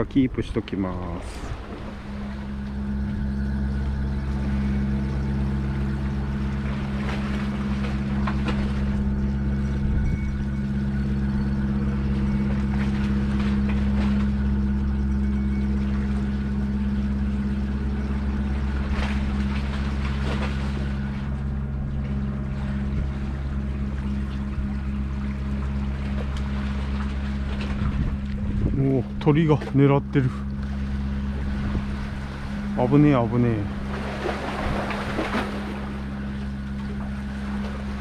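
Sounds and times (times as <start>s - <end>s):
boat engine humming: 0.0s - 38.0s.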